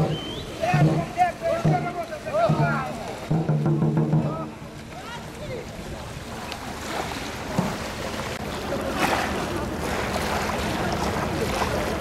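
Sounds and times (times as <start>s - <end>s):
paddles splashing in water: 0.0s - 12.0s.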